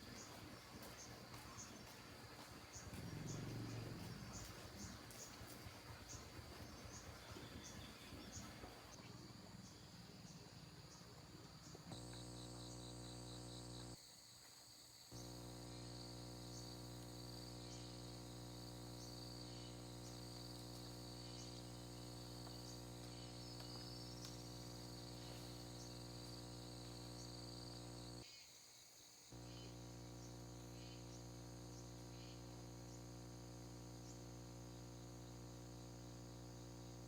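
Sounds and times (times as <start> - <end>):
steady low hum: 0.0 - 14.0, 15.1 - 28.2, 29.4 - 37.0
insects buzzing: 0.0 - 37.0
short insect chirps: 0.0 - 37.0.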